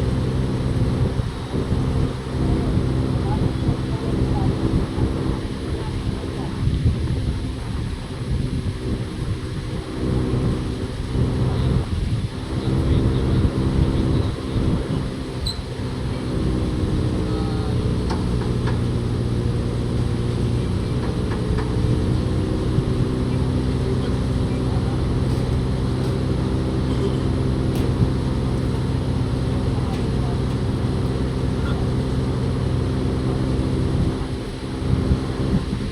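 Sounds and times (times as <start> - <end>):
machine droning hum: 0.0 - 35.9.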